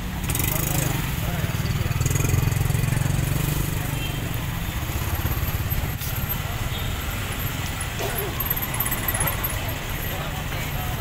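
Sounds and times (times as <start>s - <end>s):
auto-rickshaw engine idling: 0.0s - 11.0s
motorcycle engines: 0.0s - 11.0s
street crowd voices: 0.0s - 11.0s.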